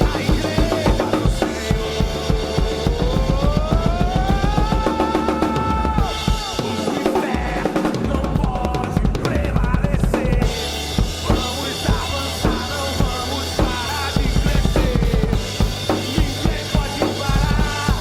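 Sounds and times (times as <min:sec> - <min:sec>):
drum kit playing: 0:00.0 - 0:18.0
recorded song: 0:00.0 - 0:18.0.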